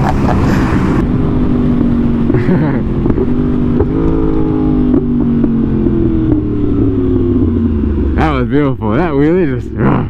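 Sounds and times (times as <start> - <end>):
motorcycle engine running: 1.0 - 10.0.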